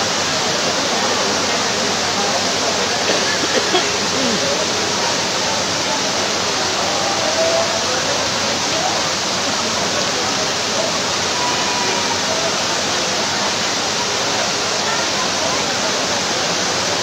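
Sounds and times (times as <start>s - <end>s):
floodwater rushing over pavement: 0.0s - 17.0s
heavy rain: 0.0s - 17.0s.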